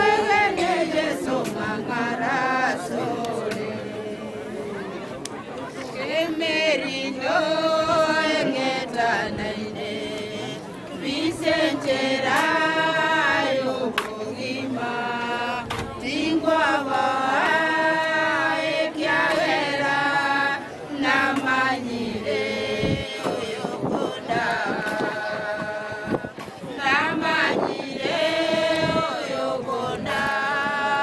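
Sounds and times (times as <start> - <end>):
women singing a hymn: 0.0 - 31.0.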